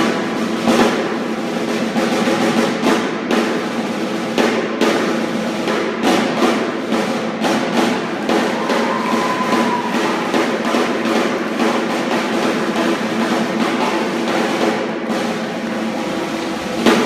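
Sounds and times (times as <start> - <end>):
snare drums playing rolls: 0.0 - 17.0.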